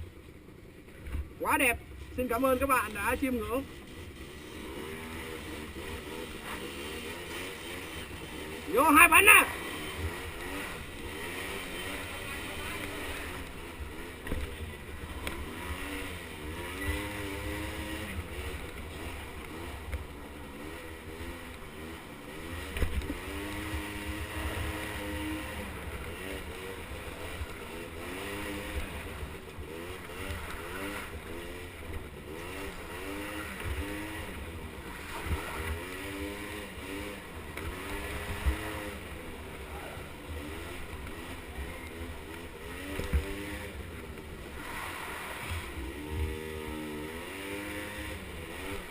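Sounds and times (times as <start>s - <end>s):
two-stroke engine revving: 1.2s - 48.9s.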